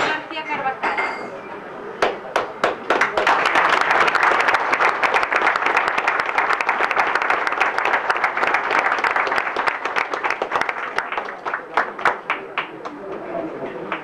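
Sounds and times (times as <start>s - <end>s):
audience applauding: 2.4s - 14.0s.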